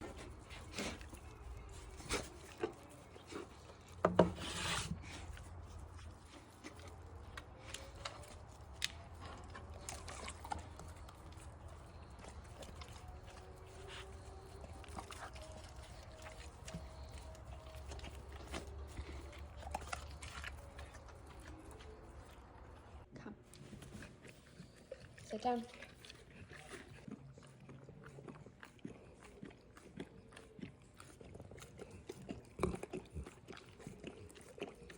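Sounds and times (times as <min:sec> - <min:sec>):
dog chewing and smacking: 0:00.0 - 0:34.9.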